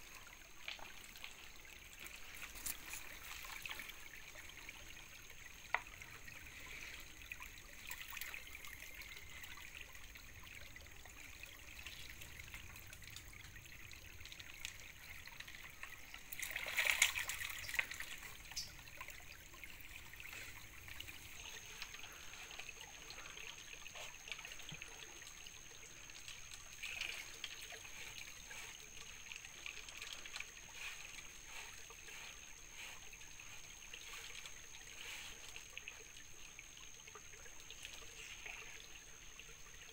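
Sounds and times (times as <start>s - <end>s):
stream water trickling over stones: 0.0s - 39.9s.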